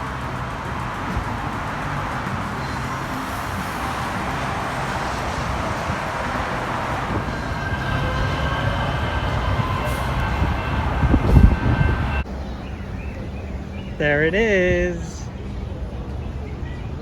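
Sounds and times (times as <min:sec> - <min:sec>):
light rail train rumbling: 0:00.0 - 0:13.9.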